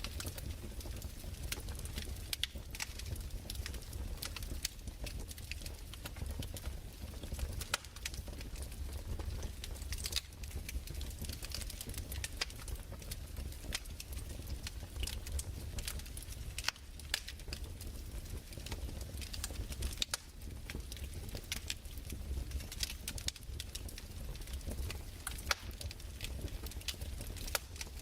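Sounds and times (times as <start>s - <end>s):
fireplace crackling: 0.0s - 28.0s.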